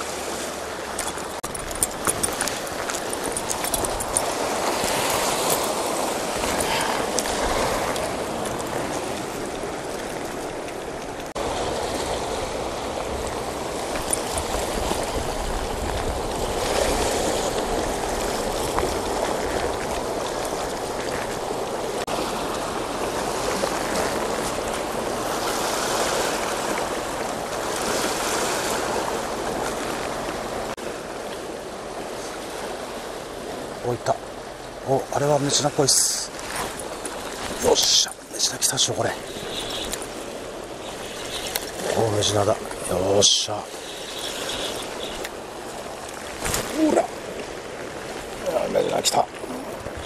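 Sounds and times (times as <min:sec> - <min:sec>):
waves on rocky shore: 0:00.0 - 0:50.0.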